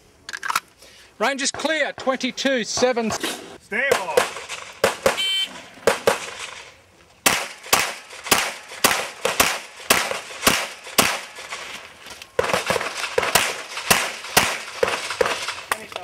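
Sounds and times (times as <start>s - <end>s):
pistol gunshots: 1.5s - 11.8s, 12.4s - 15.9s.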